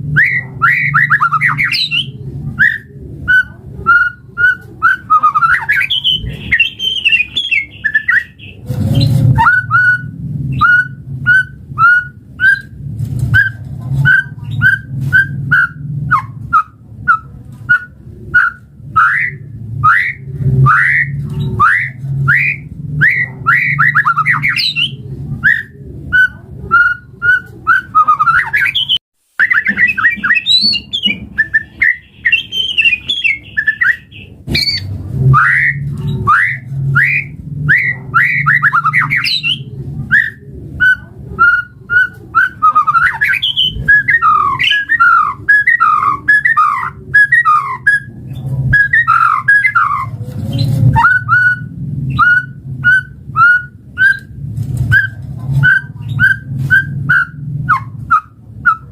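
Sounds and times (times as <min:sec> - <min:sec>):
low steady hum: 0:00.0 - 0:58.9
songbird singing: 0:00.0 - 0:58.9.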